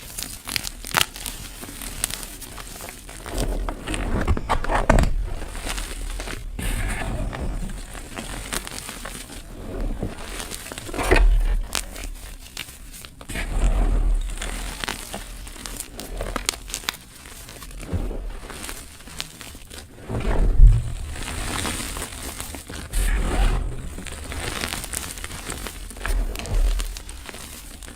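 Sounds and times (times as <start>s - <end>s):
chalk and petals crunching: 0.0s - 4.3s, 5.0s - 27.9s.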